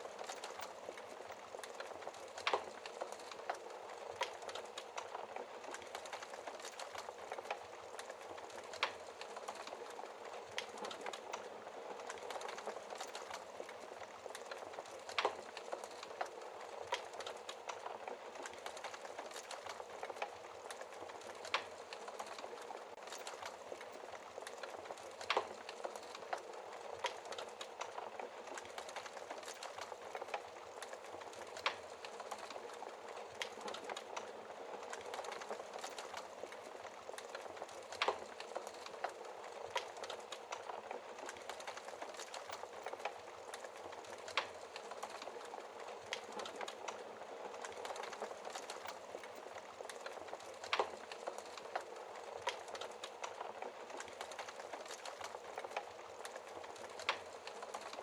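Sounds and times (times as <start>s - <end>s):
wood fire crackling: 0.0s - 58.0s
fire pops and snaps: 0.1s - 58.0s.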